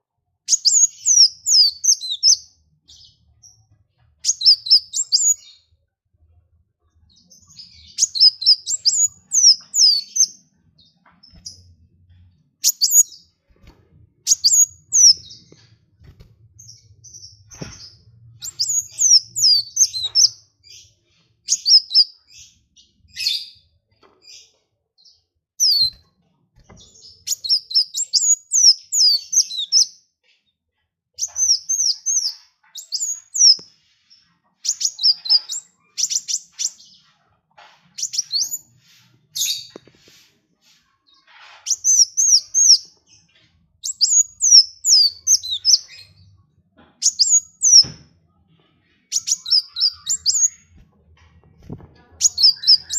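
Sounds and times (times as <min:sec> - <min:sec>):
songbird chirping: 0:00.0 - 0:05.9, 0:06.8 - 0:30.1, 0:31.2 - 0:52.9.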